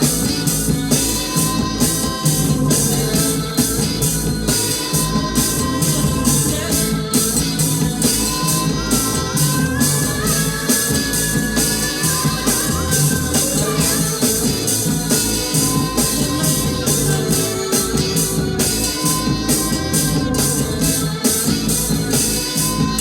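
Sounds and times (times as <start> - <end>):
bass guitar: 0.0 - 23.0
drum kit beat: 0.0 - 23.0
electric lead guitar: 0.0 - 23.0.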